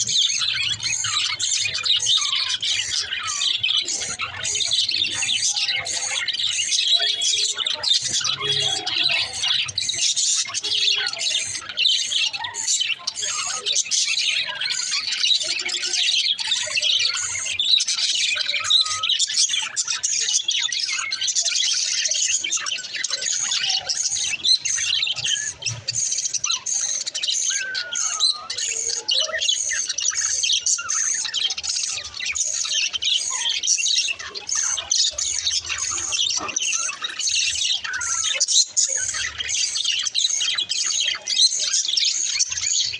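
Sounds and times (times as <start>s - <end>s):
budgies chirping and squawking: 0.0s - 42.9s.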